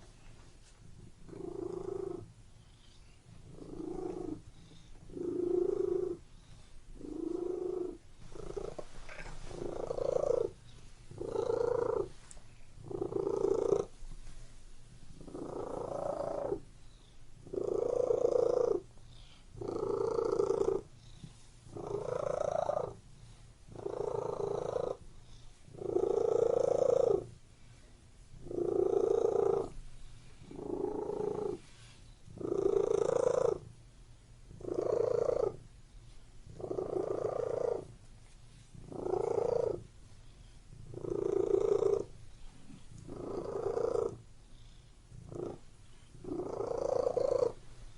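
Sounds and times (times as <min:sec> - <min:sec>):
cat purring: 0:00.0 - 0:33.8, 0:34.4 - 0:47.9.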